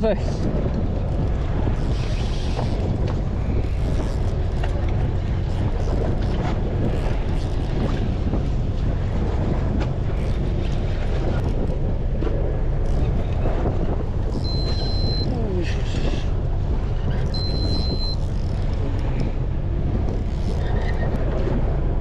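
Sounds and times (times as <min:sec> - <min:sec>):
boat engine rumble: 0:00.0 - 0:22.0
wind buffeting microphone: 0:00.0 - 0:22.0.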